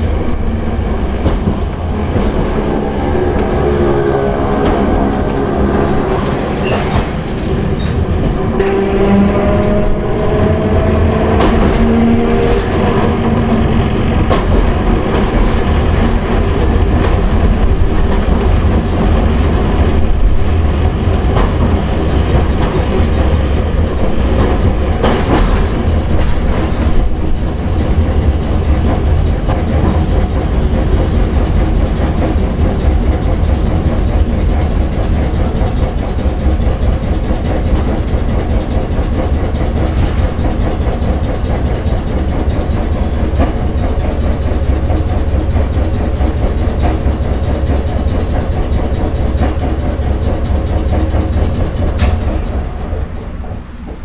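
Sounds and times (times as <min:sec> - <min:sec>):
tram motor rumble: 0:00.0 - 0:54.0
wheels clicking over rails: 0:00.0 - 0:54.0.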